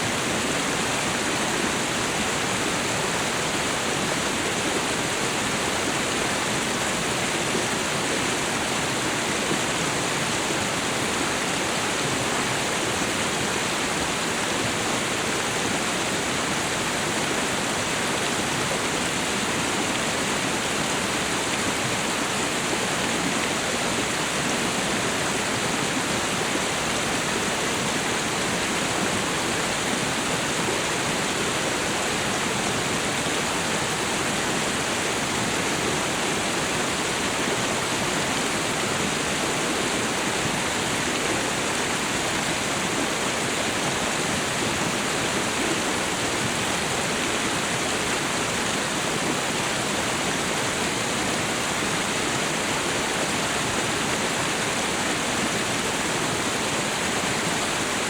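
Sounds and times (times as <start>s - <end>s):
waterfall and river rushing: 0.0s - 58.0s.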